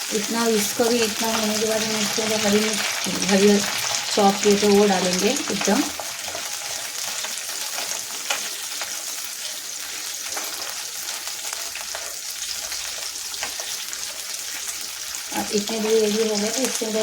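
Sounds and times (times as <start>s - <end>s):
garlic sizzling in hot oil: 0.0s - 17.0s.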